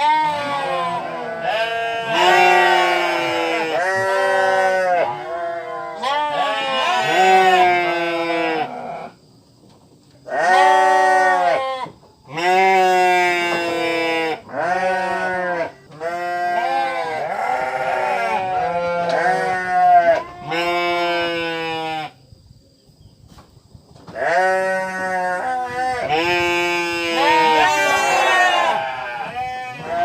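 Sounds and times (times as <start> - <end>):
sheep or goats bleating: 0.0 - 9.1, 10.3 - 22.2, 24.1 - 30.0.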